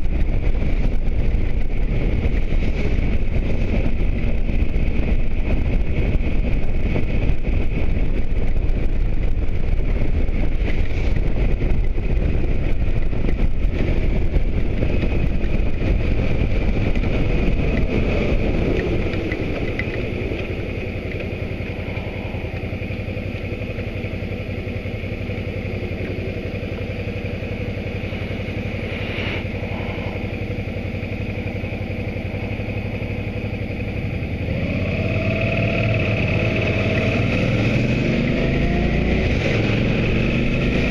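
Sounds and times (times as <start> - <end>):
motorcycle engine: 0.0 - 40.9
wind and road noise: 0.0 - 40.9.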